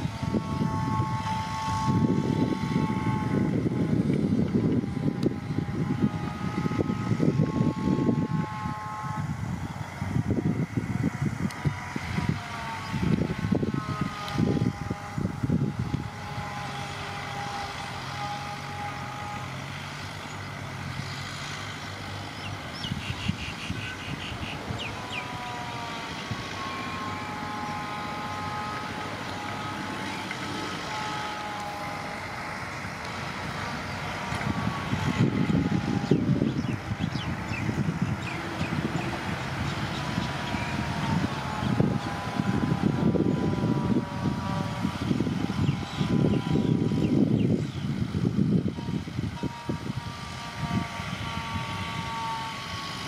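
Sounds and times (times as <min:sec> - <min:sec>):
bulldozer diesel engine: 0:00.0 - 0:53.0
thin squealing tones: 0:04.8 - 0:47.9.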